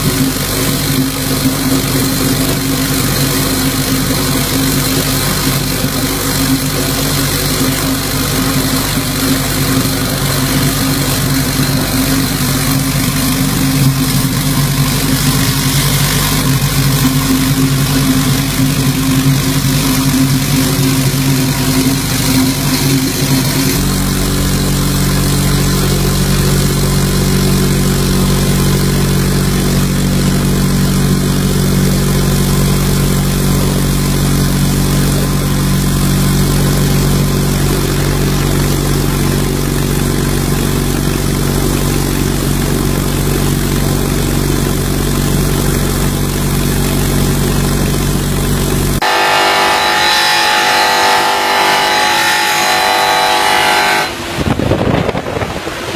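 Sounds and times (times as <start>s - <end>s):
machine hum: 0.0s - 55.9s.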